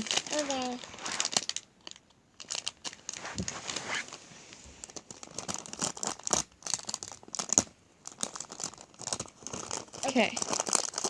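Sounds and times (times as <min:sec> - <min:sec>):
wrapper crinkling and rustling: 0:00.0 - 0:11.0.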